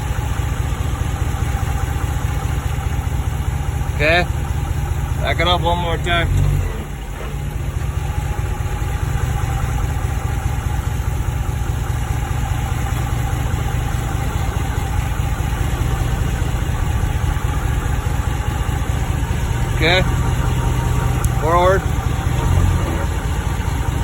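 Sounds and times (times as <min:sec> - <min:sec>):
pickup truck engine idling: 0:00.0 - 0:24.0.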